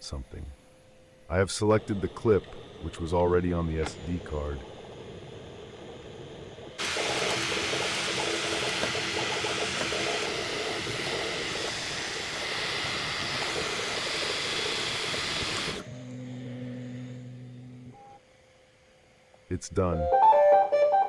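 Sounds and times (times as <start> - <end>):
three d printer whirring: 1.3 - 18.2.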